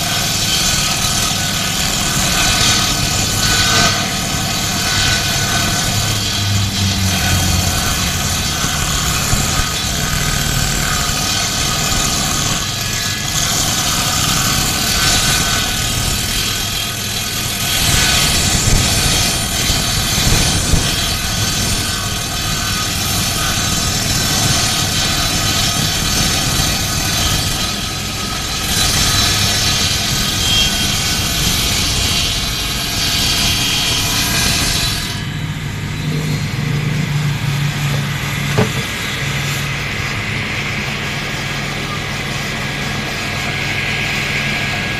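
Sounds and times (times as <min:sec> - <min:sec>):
woodworking machine cutting wood: 0:00.0 - 0:44.9.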